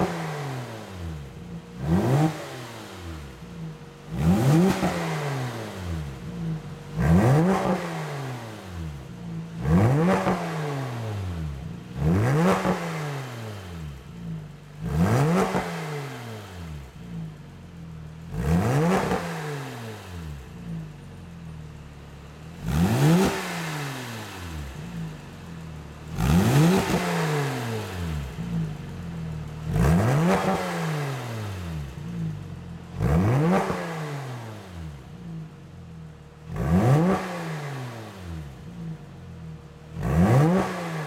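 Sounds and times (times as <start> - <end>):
car engine revving from idle: 0.0 - 41.0.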